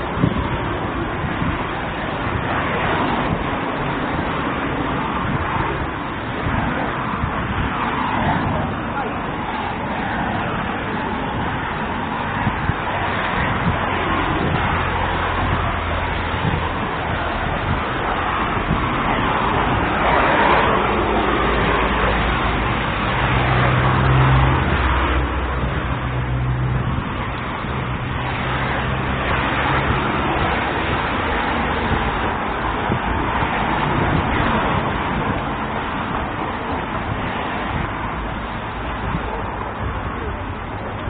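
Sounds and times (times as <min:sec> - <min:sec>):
cars passing: 0:00.0 - 0:41.0
low steady engine hum: 0:00.0 - 0:41.0.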